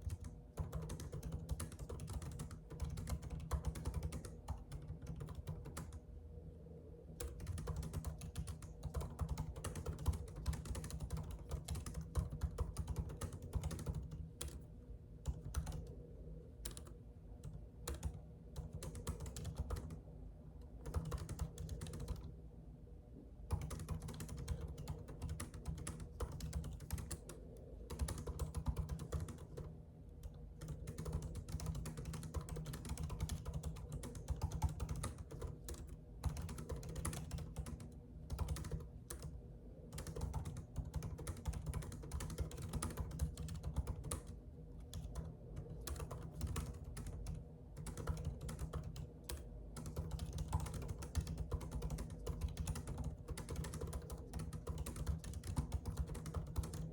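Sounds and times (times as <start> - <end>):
typing on a computer keyboard: 0.0 - 6.0, 7.2 - 16.0, 16.6 - 20.0, 20.6 - 22.4, 23.5 - 56.9.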